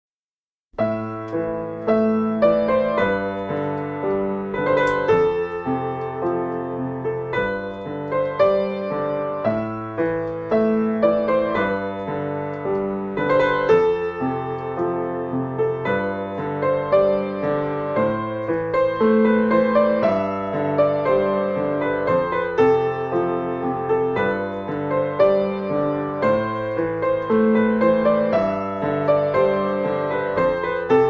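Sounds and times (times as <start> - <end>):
gentle piano melody: 0.8 - 31.0.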